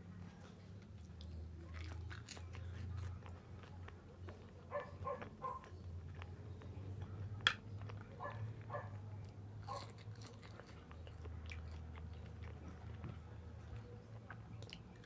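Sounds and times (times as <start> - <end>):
person chewing food: 0.4 - 15.0.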